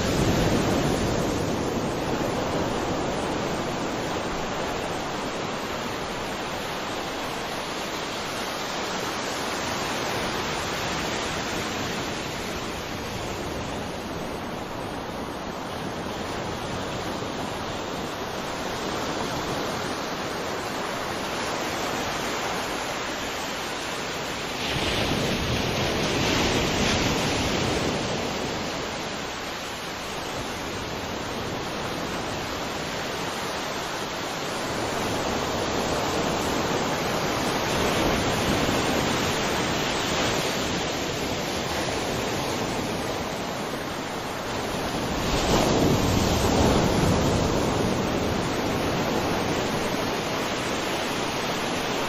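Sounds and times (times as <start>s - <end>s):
sea waves breaking: 0.0s - 52.0s.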